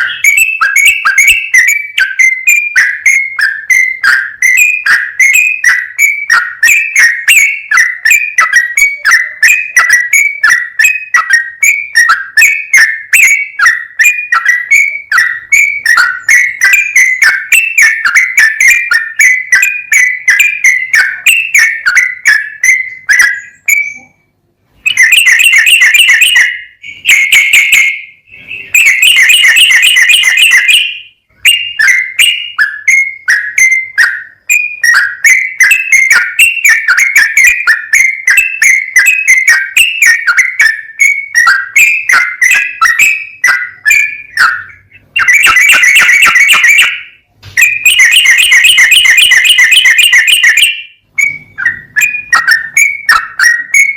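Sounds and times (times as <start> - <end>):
bird bubbling whistled song: 0.0 - 24.2, 24.8 - 53.9
bird rapid chattering: 0.0 - 24.2, 24.8 - 53.9.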